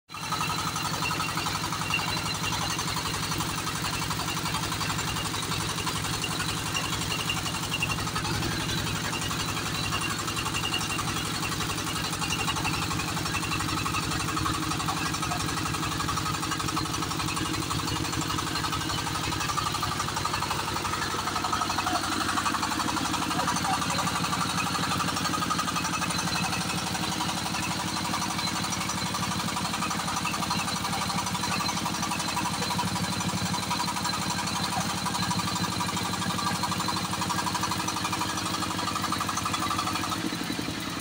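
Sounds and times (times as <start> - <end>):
drilling rig diesel engine knocking: 0.1 - 41.0.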